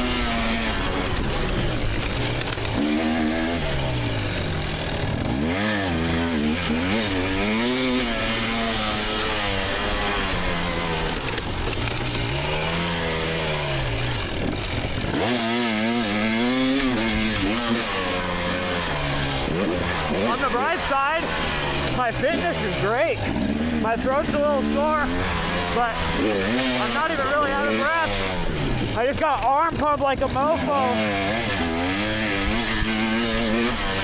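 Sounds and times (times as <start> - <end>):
dirt bike engine revving: 0.0 - 34.0
track noise: 0.0 - 34.0.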